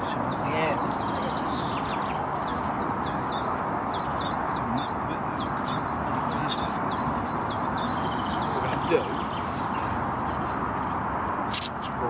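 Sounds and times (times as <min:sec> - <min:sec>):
small bird chirping: 0:00.0 - 0:12.0
steady outdoor rush: 0:00.0 - 0:12.0.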